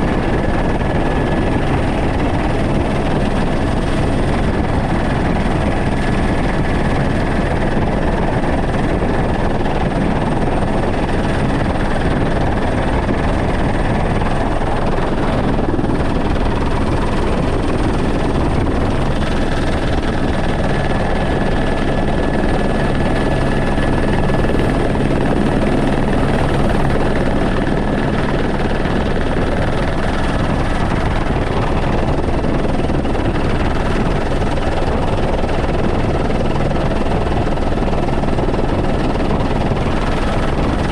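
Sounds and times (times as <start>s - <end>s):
helicopter rotor and engine noise: 0.0s - 40.9s.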